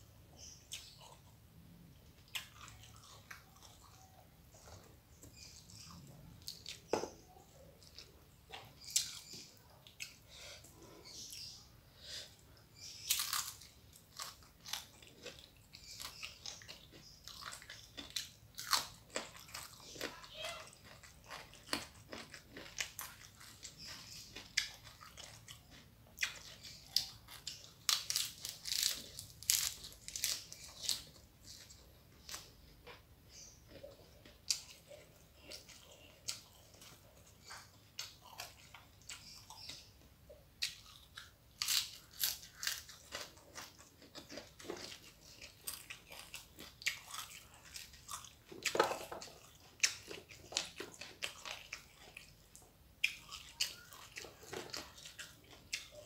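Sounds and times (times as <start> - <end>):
chewing and biting food: 0.4 - 11.5, 12.8 - 40.0, 40.6 - 56.0.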